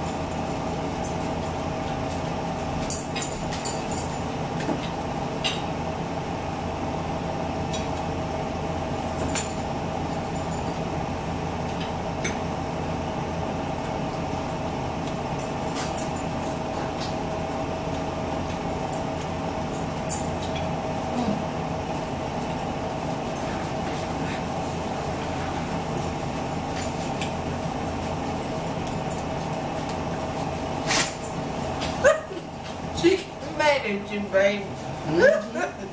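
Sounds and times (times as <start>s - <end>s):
mechanical hum: 0.0s - 35.9s.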